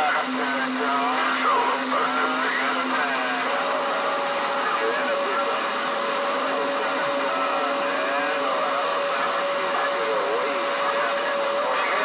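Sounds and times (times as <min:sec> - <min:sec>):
faint garbled radio voices: 0:00.0 - 0:12.0
radio static hiss: 0:00.0 - 0:12.0
steady radio whistle: 0:00.0 - 0:12.0.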